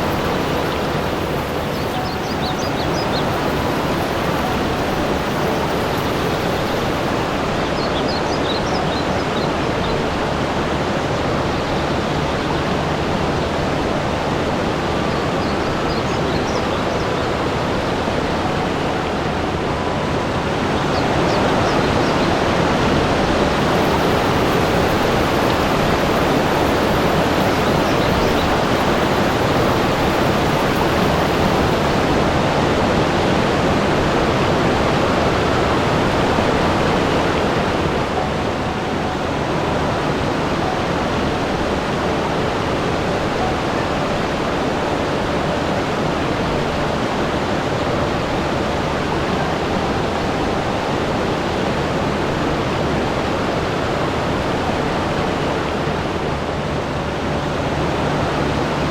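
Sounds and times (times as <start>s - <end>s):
rushing water: 0.0s - 58.9s.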